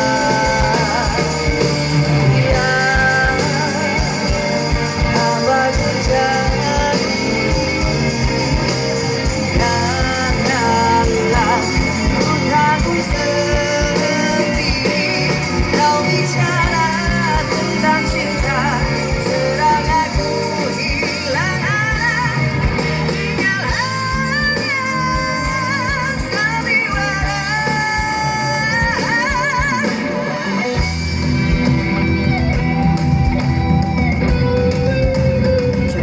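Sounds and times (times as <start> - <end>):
live rock band playing: 0.0 - 36.0
wavering lead melody: 0.0 - 36.0.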